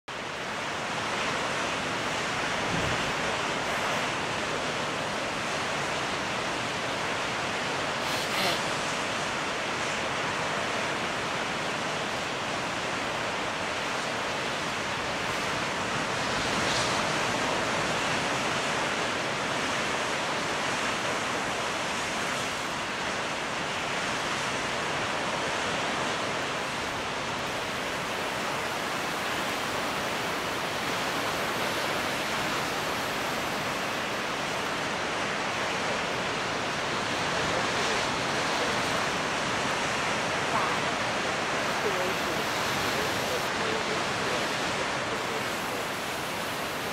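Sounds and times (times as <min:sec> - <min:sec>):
surf breaking on rocky shore: 0:00.1 - 0:46.9.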